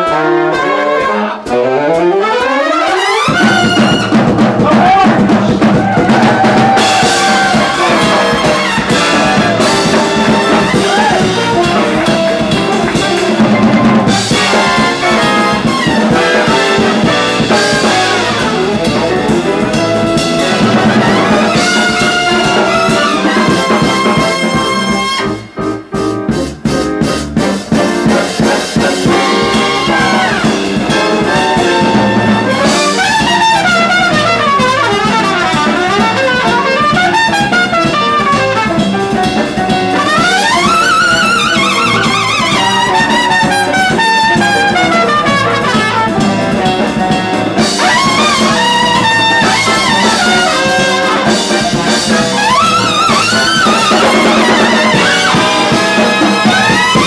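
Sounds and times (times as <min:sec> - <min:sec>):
trumpet playing high lines: 0:00.0 - 0:25.9, 0:27.8 - 0:57.0
jazz big band playing: 0:00.0 - 0:57.0.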